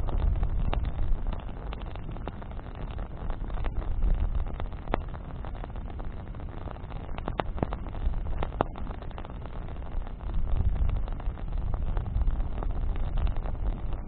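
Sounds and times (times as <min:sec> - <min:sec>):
bonfire crackling and popping: 0:00.0 - 0:14.0
low rumble: 0:00.0 - 0:14.0.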